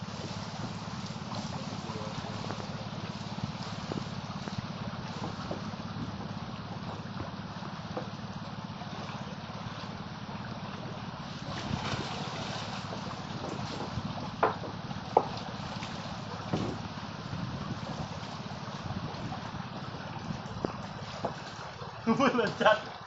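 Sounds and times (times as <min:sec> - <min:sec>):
boat engine running: 0:00.0 - 0:23.0
water rushing along hull: 0:00.0 - 0:23.0.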